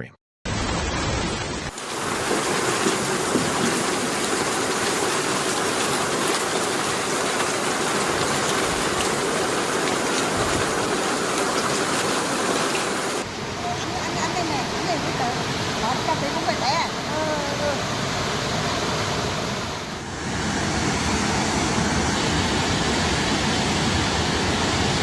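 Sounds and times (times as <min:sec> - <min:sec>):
rushing water with crackle: 0:00.5 - 0:17.8, 0:20.0 - 0:25.0.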